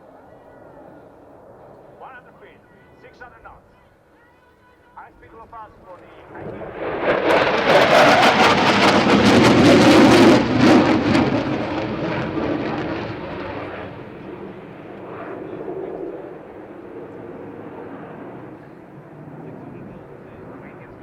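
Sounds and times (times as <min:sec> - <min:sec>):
jet low pass with crackle: 0:00.0 - 0:03.6, 0:05.2 - 0:21.0.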